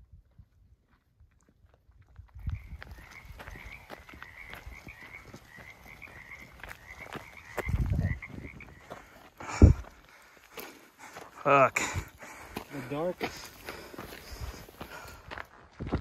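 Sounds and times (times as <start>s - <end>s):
footsteps on dirt trail: 0.0s - 16.0s
frogs croaking chorus: 2.4s - 15.3s.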